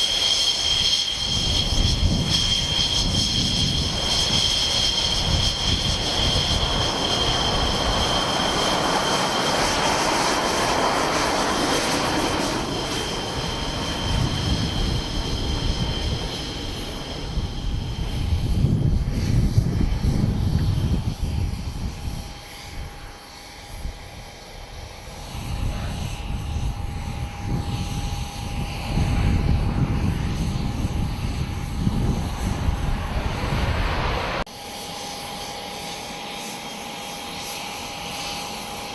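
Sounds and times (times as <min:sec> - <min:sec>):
jet engine deep rumble: 0:00.0 - 0:38.9
jet engine high whine: 0:00.0 - 0:38.9.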